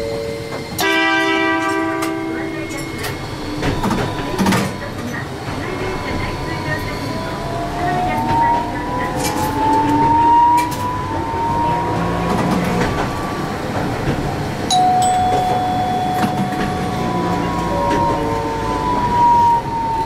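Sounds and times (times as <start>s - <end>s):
rail and road noise: 0.0s - 20.0s
tram motors whining: 0.0s - 20.0s.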